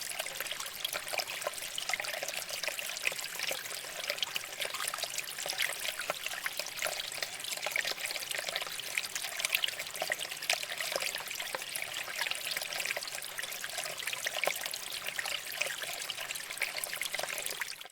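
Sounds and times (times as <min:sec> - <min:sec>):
water flowing over rocks: 0:00.0 - 0:17.9.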